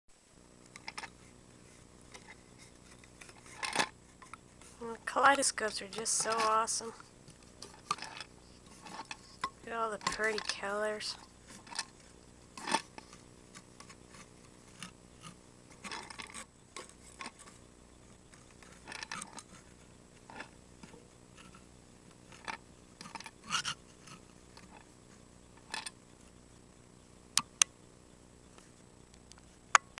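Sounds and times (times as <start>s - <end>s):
faint steady hum: 0.1s - 30.0s
soft handling clicks and rustles: 0.6s - 30.0s.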